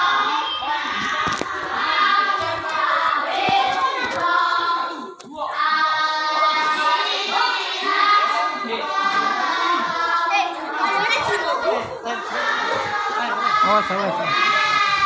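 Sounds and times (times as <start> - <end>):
children chanting: 0.0 - 15.0.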